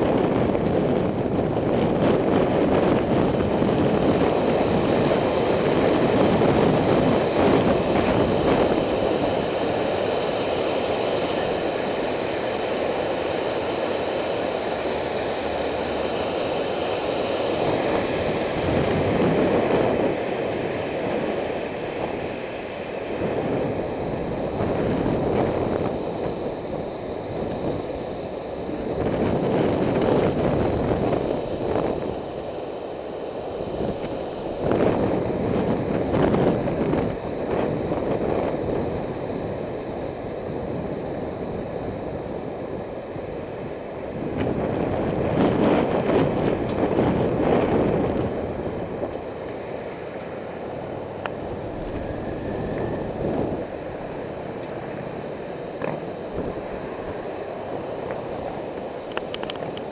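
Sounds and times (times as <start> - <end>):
wind on microphone: 0.0 - 32.8, 33.4 - 59.9
bicycle road noise: 0.0 - 59.9.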